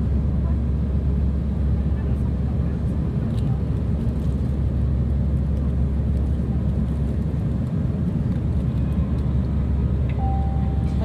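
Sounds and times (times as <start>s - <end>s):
jet engine and airflow rumble: 0.0s - 11.0s.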